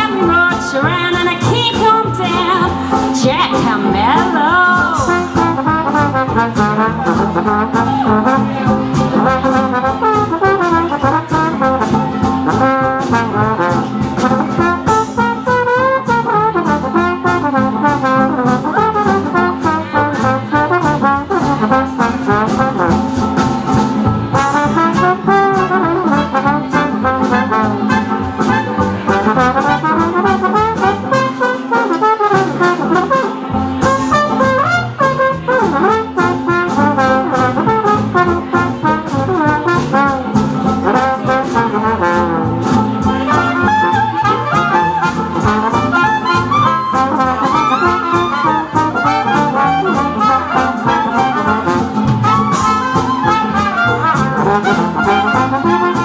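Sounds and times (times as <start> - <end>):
swing jazz band playing: 0.0 - 56.0.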